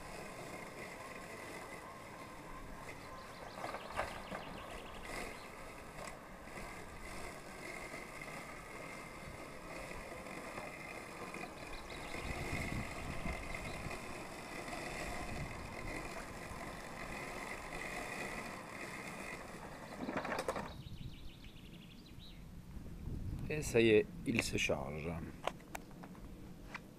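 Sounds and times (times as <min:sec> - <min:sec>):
robotic lawnmower motor whine: 0:00.0 - 0:22.4.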